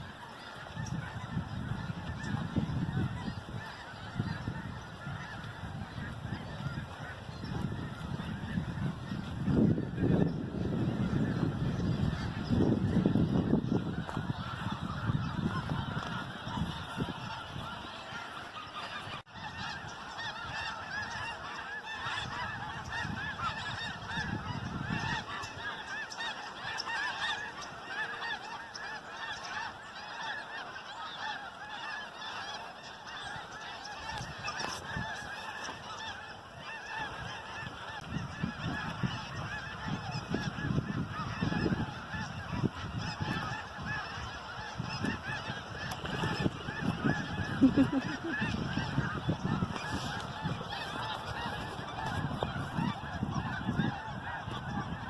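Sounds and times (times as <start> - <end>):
flock of geese honking: 0.0 - 55.0.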